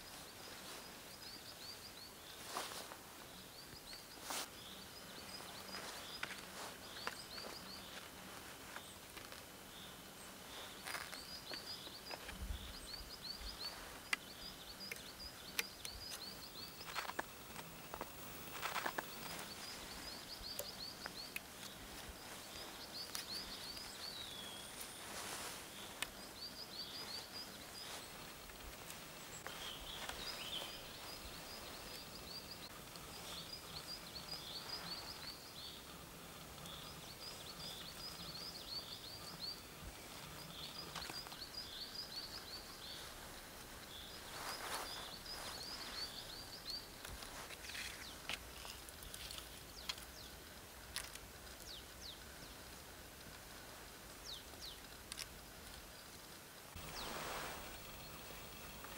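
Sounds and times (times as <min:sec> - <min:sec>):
rustling through undergrowth: 0:00.0 - 0:58.9.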